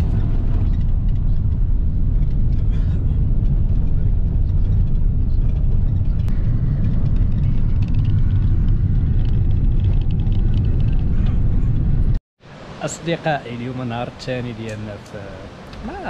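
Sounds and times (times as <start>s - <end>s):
engine and tyre rumble: 0.0s - 15.8s.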